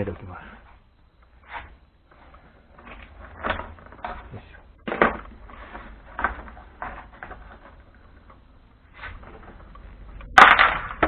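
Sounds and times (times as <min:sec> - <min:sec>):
sharp clatter: 0:01.4 - 0:11.0.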